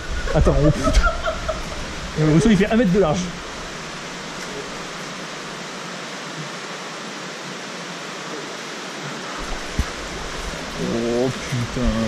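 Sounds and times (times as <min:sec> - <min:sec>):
water rushing through rock gorge: 0:00.0 - 0:12.0.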